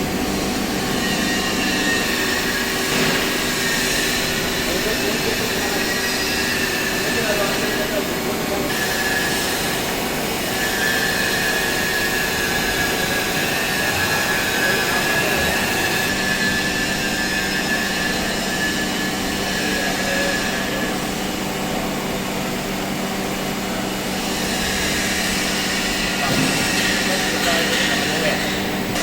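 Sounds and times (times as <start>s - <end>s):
hydraulic pump whining and humming: 0.0s - 29.0s.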